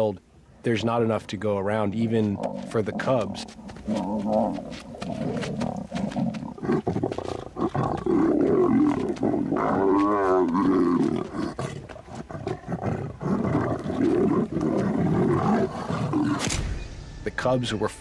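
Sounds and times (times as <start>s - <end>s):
lions growling and snarling: 1.9s - 16.5s.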